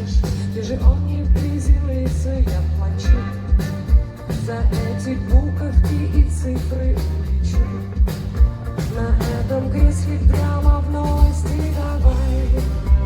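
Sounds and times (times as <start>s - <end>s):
live rock band playing: 0.0s - 13.0s
woman singing: 0.0s - 13.0s.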